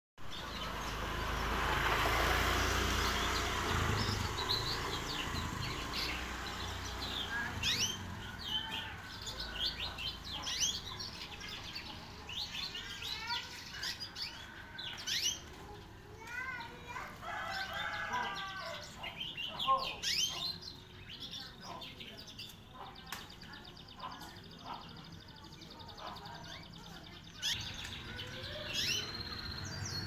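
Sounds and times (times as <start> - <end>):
canary chirping: 0.2 - 30.0.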